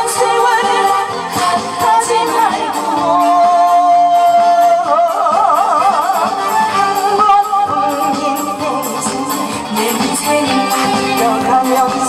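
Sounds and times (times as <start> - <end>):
recorded backing track: 0.0 - 12.0
woman singing: 0.0 - 12.0.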